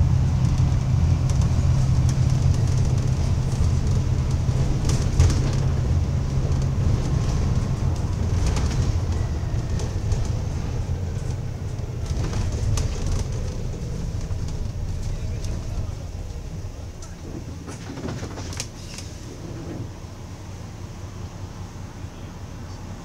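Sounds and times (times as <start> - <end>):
bus engine drone: 0.0 - 23.0
road noise: 0.0 - 23.0
light rattles and clicks: 0.3 - 19.1.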